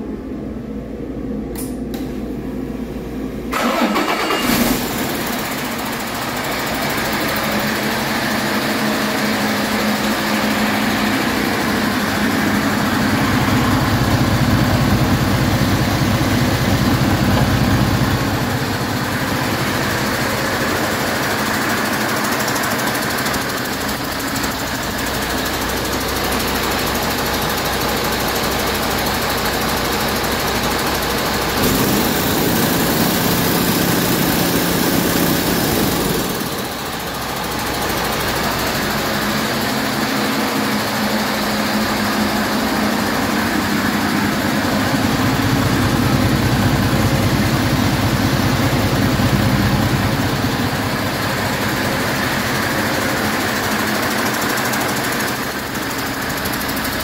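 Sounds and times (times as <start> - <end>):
diesel engine running: 3.2 - 57.0.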